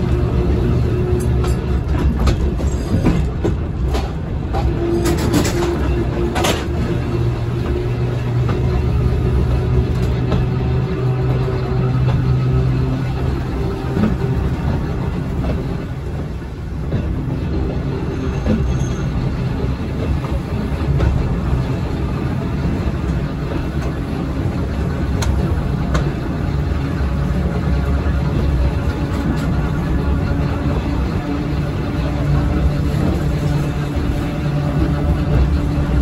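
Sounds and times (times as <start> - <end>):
railway car rumble: 0.0 - 36.0.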